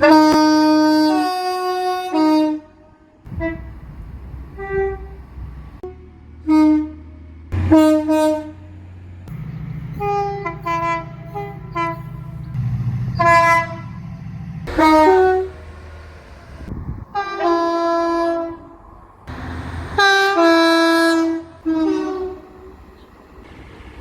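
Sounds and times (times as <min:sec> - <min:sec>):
train horn blasts: 0:00.0 - 0:23.6
low rumble: 0:03.3 - 0:24.0.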